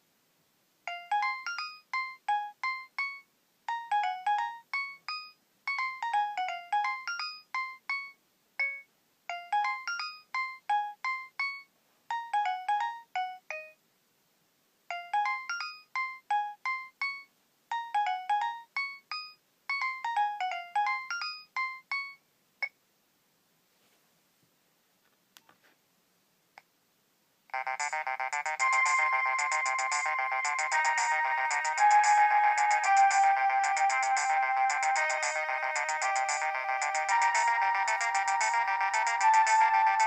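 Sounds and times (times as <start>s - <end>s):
mobile phone ringtone melody: 0.9s - 13.8s, 14.9s - 22.2s, 27.5s - 40.0s.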